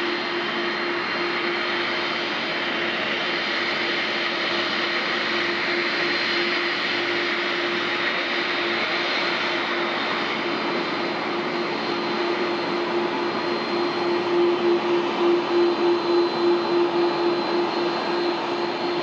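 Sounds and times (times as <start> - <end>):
jet engines at taxi power: 0.0 - 19.0.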